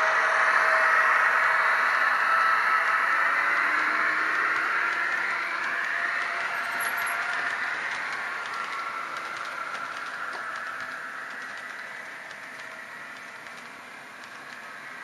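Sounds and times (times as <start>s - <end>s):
model train whirring and clicking: 0.0s - 15.0s.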